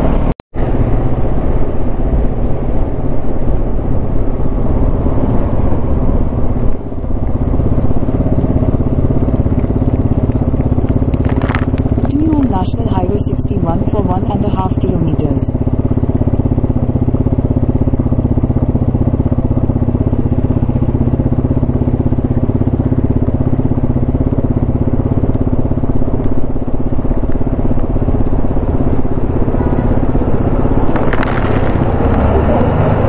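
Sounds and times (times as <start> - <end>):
motorcycle engine running: 0.0 - 33.0
oncoming truck rushing: 0.0 - 33.0.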